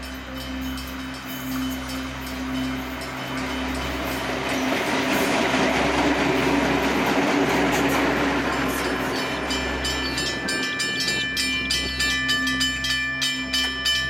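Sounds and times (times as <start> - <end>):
high ringing tones: 0.0 - 6.6, 8.1 - 14.0
steam train rushing and rumbling: 0.0 - 14.0.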